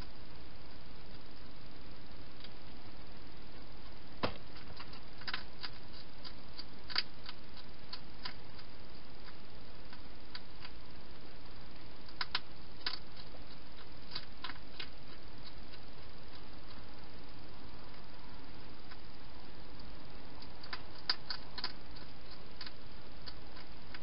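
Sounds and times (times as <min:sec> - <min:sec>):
steady hiss: 0:00.0 - 0:24.0
hedgehog crunching dry food: 0:03.5 - 0:24.0.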